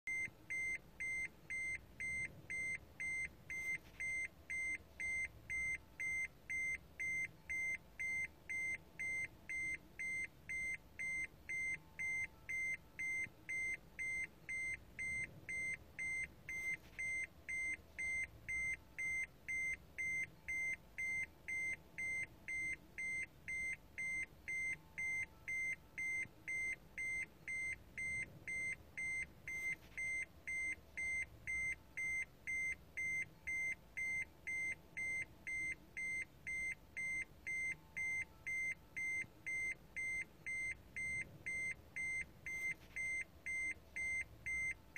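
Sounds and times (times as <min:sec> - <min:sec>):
short high-pitched beeps: 0:00.1 - 0:44.9.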